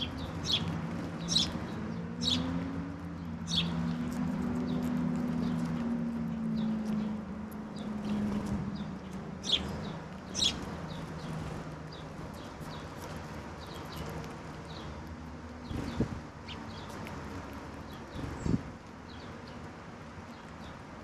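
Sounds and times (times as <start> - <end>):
songbirds calling: 0.0 - 21.0.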